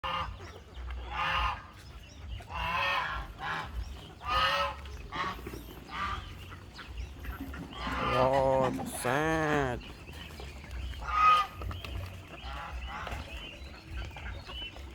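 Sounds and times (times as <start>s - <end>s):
geese honking: 0.0s - 14.9s.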